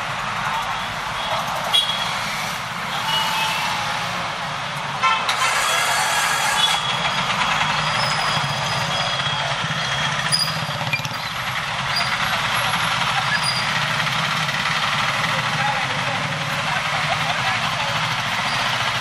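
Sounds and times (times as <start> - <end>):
auto-rickshaw engine rumbling: 0.0 - 19.0
motorbikes passing: 0.2 - 4.7, 5.3 - 19.0.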